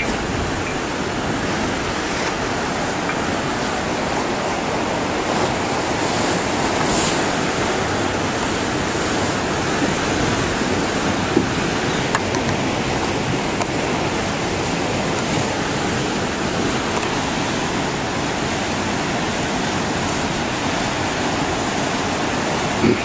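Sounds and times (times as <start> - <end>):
floodwater rushing and churning: 0.0 - 23.0.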